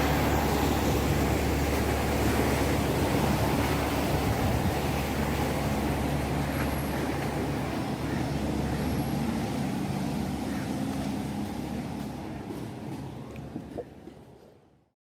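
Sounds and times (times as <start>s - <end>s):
large engine humming: 0.0s - 14.4s
outdoor noise: 0.0s - 15.0s.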